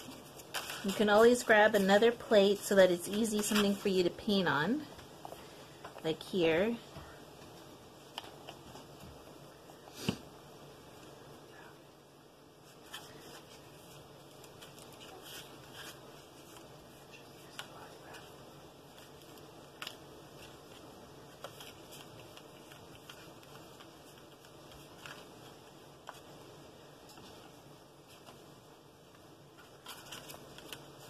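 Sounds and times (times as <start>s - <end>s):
low room hiss: 0.0s - 31.0s.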